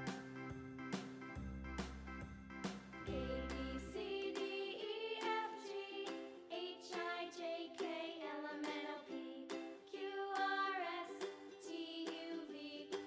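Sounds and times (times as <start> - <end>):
bright children's song melody: 0.0 - 13.0.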